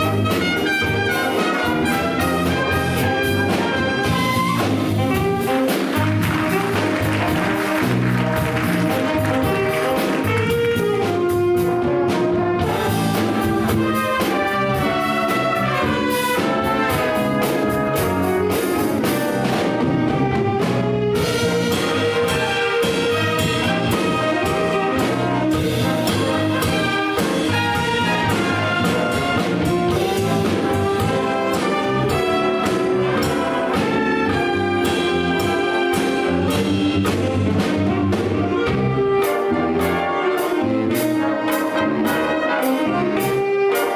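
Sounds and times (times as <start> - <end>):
big band playing up-tempo jazz: 0.0 - 43.9
brass section ensemble lines: 0.0 - 43.9.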